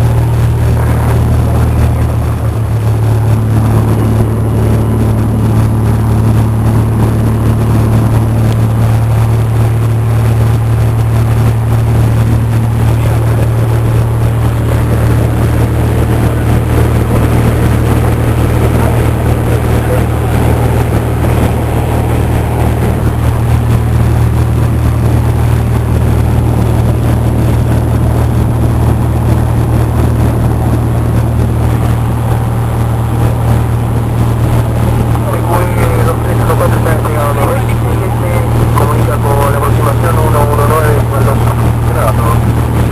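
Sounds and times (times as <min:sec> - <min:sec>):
propeller plane engine droning: 0:00.0 - 0:42.9.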